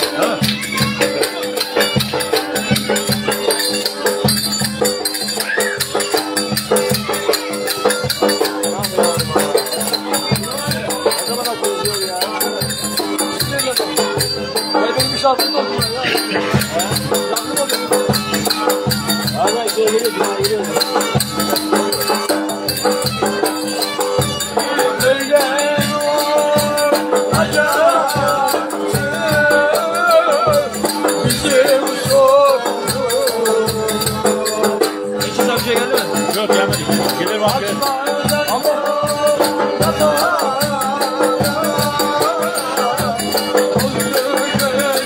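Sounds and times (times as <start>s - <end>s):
ornamented folk melody: 0.0s - 45.0s.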